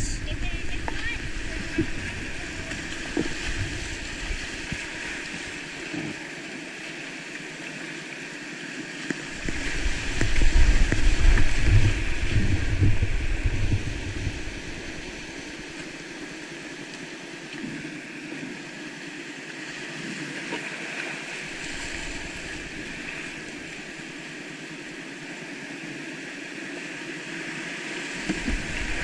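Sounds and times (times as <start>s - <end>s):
whitewater rushing: 0.0s - 26.6s, 27.2s - 29.0s
paddle splashes: 0.2s - 25.2s, 26.6s - 29.0s.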